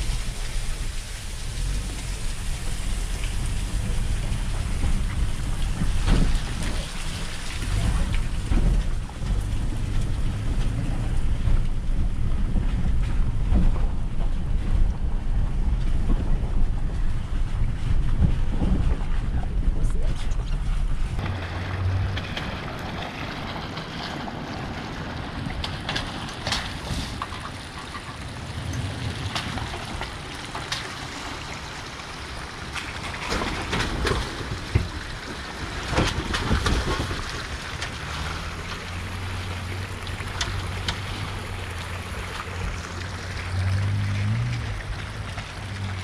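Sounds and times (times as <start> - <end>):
truck engine hum: 0.0 - 46.0
tyres crunching on rock and mud: 0.0 - 46.0.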